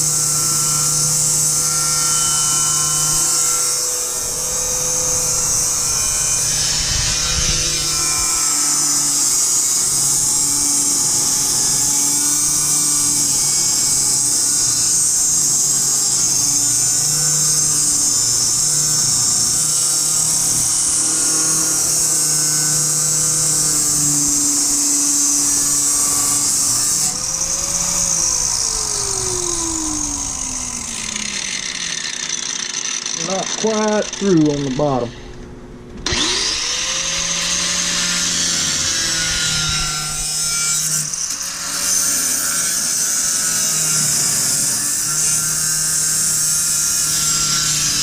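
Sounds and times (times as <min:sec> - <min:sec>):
grinder cutting metal: 0:00.0 - 0:35.3, 0:36.0 - 0:48.0
grinder wheel spinning down: 0:00.0 - 0:35.3, 0:36.0 - 0:48.0.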